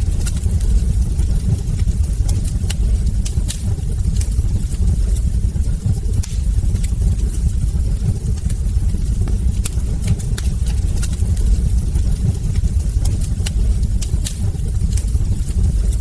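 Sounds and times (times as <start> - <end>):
fire low rumble: 0.0 - 16.0
logs crackling and popping: 0.0 - 16.0.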